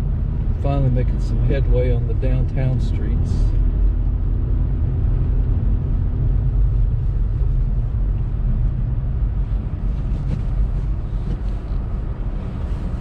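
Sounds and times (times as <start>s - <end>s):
car engine rumble from inside cabin: 0.0s - 13.0s
tyre noise on snowy road: 0.1s - 13.0s.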